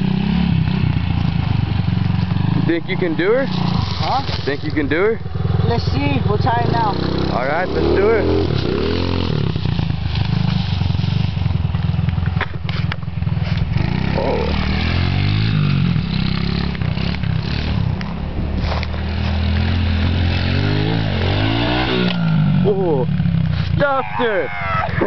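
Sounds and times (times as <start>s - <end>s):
small motorbike engine revving: 0.0s - 25.0s.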